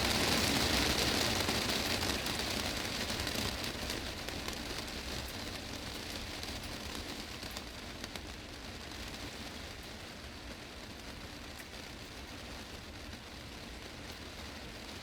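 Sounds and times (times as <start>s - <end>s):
rain on a glass roof: 0.0s - 15.0s.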